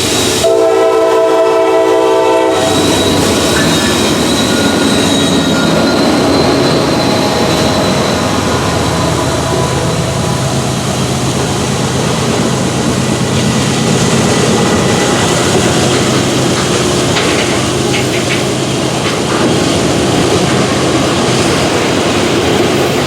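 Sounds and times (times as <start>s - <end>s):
freight train diesel drone: 0.0s - 23.0s
train rumbling: 0.0s - 23.0s.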